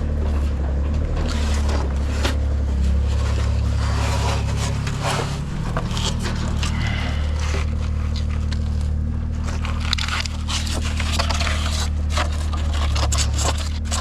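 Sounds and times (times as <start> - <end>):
scraping and clicking: 0.0 - 14.0
steady low hum: 0.0 - 14.0.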